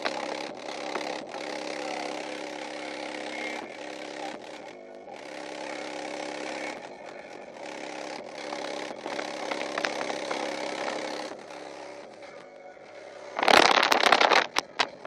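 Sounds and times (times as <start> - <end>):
subwoofer playing bass-heavy music: 0.0 - 15.0.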